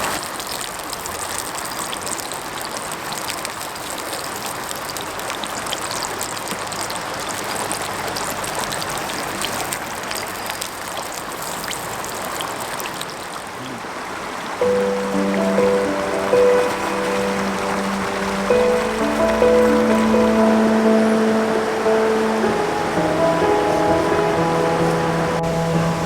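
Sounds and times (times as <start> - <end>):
mountain stream rushing: 0.0 - 26.0.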